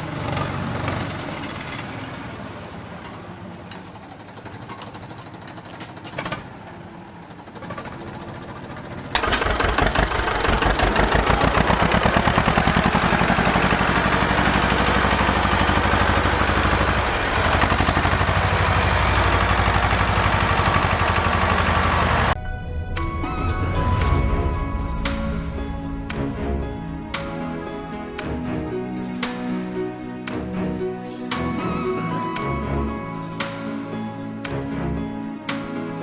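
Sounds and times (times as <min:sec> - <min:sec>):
engine chugging: 0:00.0 - 0:36.0.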